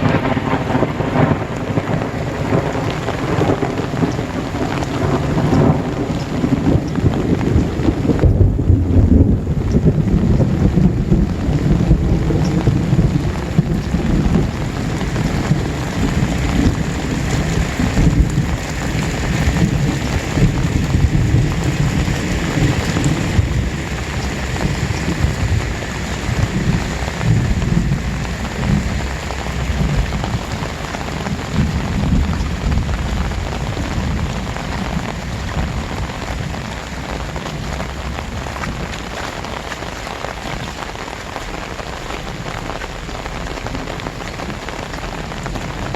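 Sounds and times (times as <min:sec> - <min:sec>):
heavy rain pouring: 0:00.0 - 0:45.9
low rumble: 0:00.0 - 0:45.9.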